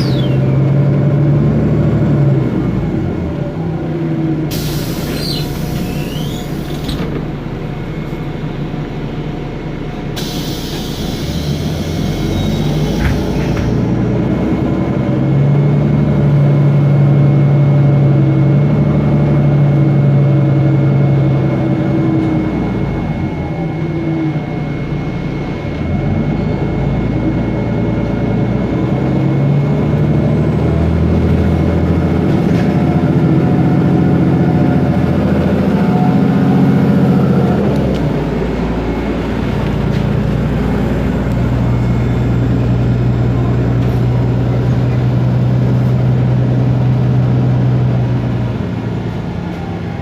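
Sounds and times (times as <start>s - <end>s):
bus diesel engine running: 0.0s - 50.0s.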